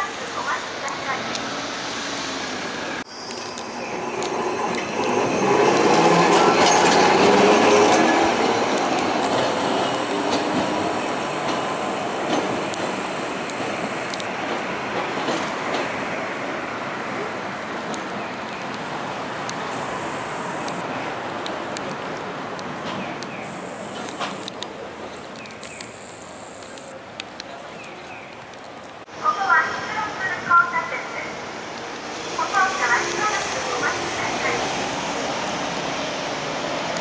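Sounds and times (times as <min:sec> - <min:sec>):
street noise rumble: 0:00.0 - 0:37.0
tram running on rails: 0:00.0 - 0:37.0.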